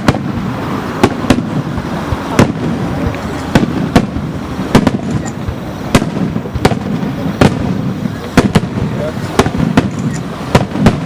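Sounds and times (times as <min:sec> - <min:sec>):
distant fireworks rumble: 0:00.0 - 0:11.0
fireworks sharp bangs: 0:00.0 - 0:11.0.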